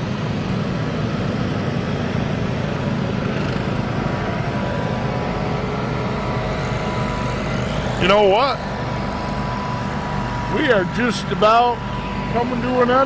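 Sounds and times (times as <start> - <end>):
lawn mower engines running: 0.0 - 13.0.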